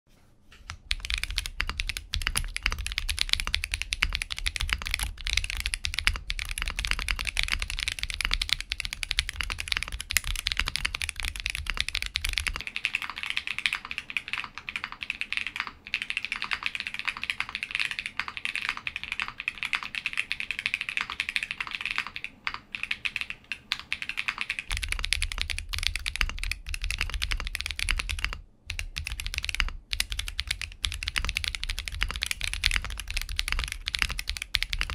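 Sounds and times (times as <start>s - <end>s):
typing on mechanical keyboard: 0.7s - 34.9s.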